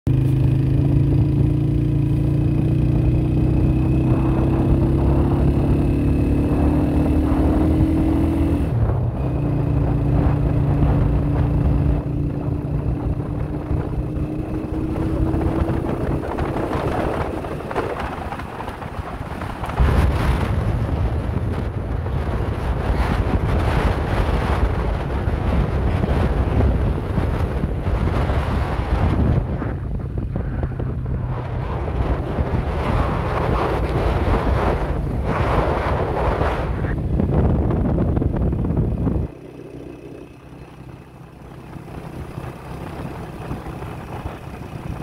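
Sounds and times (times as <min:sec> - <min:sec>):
low rumble: 0:00.1 - 0:45.0
motorcycle engine running: 0:00.1 - 0:45.0
wind rushing over microphone: 0:00.1 - 0:45.0.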